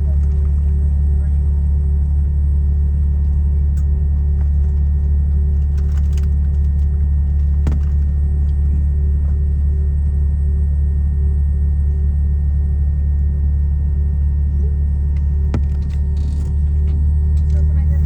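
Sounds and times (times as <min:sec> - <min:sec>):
aircraft cabin engine drone: 0:00.0 - 0:18.0
faint pulsing hum: 0:00.0 - 0:18.0.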